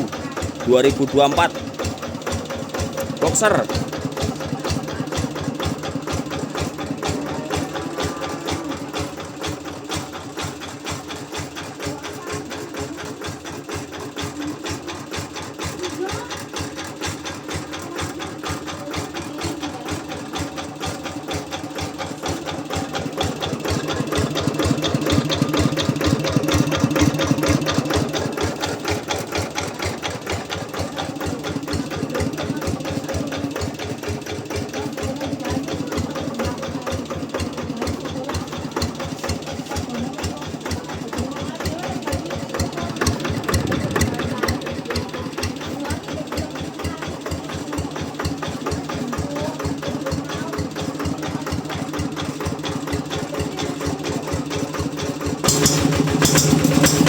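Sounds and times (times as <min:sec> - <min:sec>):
diesel engine knocking: 0:00.0 - 0:57.0.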